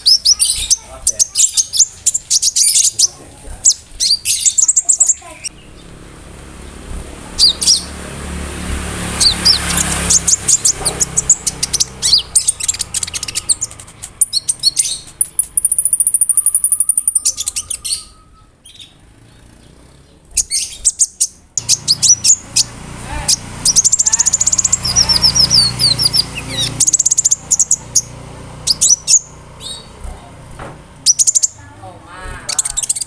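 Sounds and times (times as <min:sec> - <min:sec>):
sunbird chirps and whistles: 0:00.0 - 0:06.0, 0:06.6 - 0:08.0, 0:09.0 - 0:19.0, 0:20.3 - 0:30.0, 0:31.0 - 0:31.6, 0:32.4 - 0:33.0
high buzzing bird trill: 0:00.0 - 0:33.0.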